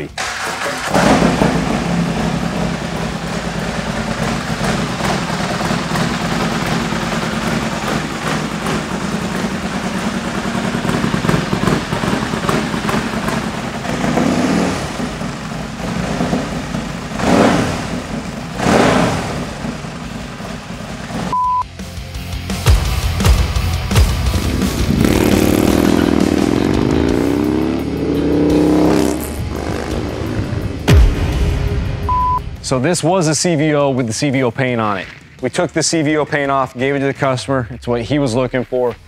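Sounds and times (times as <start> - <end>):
motorcycle engine idling and revving: 0.0 - 21.4, 22.0 - 32.7.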